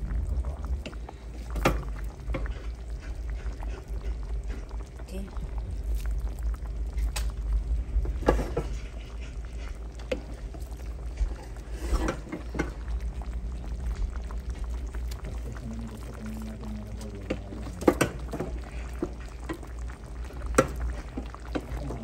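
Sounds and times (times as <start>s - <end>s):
pot bubbling with wet plops: 0.0s - 22.0s
steady low hum: 0.0s - 22.0s.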